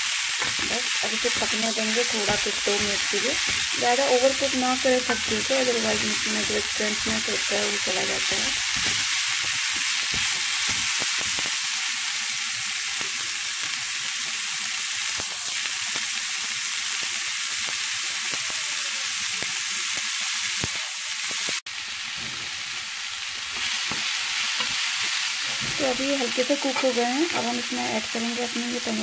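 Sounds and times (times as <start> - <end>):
vegetables sizzling in hot oil: 0.0 - 29.0.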